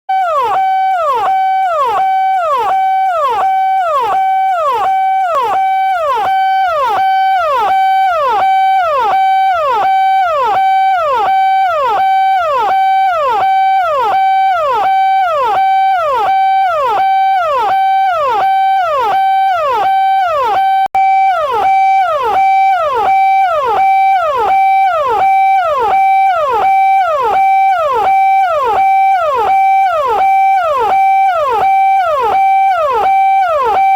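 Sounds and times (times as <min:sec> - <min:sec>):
electronic police siren: 0:00.1 - 0:33.9.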